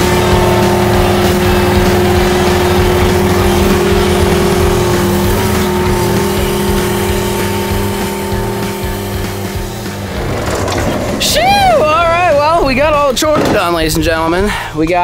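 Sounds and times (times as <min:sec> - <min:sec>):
skid steer engine running: 0:00.0 - 0:13.1
steady whine: 0:00.0 - 0:14.5.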